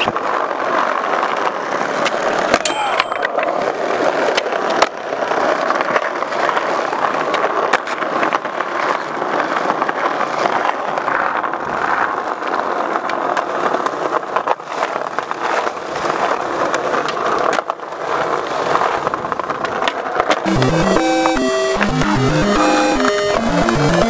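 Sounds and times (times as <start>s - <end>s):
skateboard grinding on concrete: 0.0s - 20.4s
skateboard clacks: 0.0s - 20.5s
skateboard wheels on brick: 0.0s - 20.5s.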